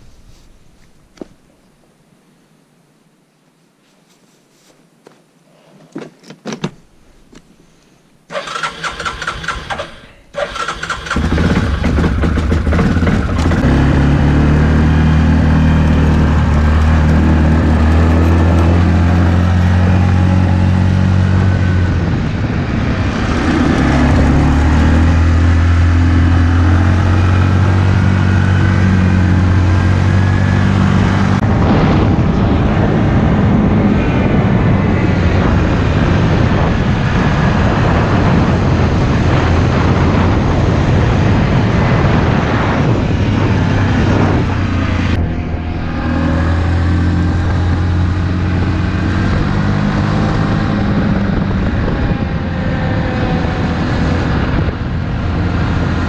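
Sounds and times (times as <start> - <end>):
quad bike engine drone: 8.4 - 56.0.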